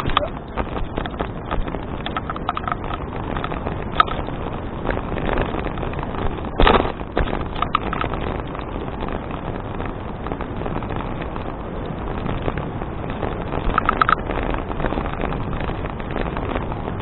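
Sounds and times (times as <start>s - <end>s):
bicycle rattling: 0.0s - 17.0s
bicycle tyre noise: 0.0s - 17.0s
wind buffeting microphone: 0.0s - 17.0s.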